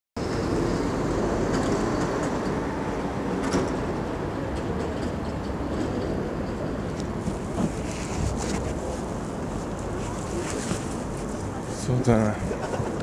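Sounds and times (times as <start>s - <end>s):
low traffic rumble: 0.2s - 13.0s.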